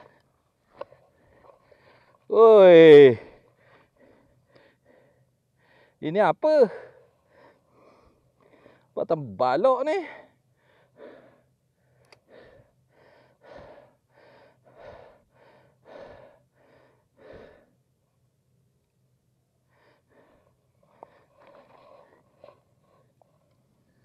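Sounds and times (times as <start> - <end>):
person breathing heavily: 0.0 - 2.3, 3.0 - 6.0, 6.7 - 9.0, 10.0 - 17.9, 19.6 - 24.0.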